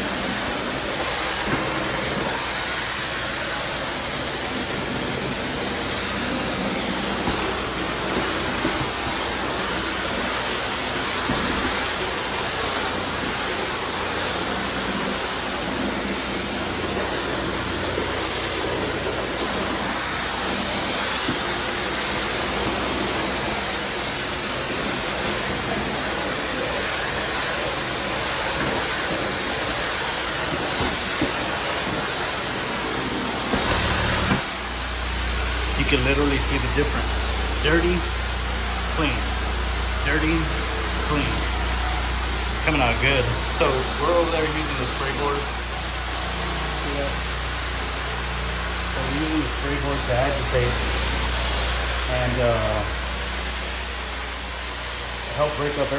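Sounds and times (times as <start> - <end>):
floor cleaner suction hiss: 0.0 - 55.9.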